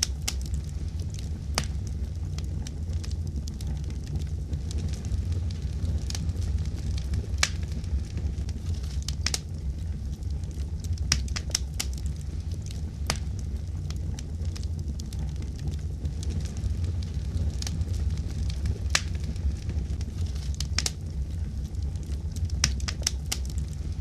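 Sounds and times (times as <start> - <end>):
low rumble of flames: 0.0 - 24.0
wood fire crackling and popping: 0.0 - 24.0.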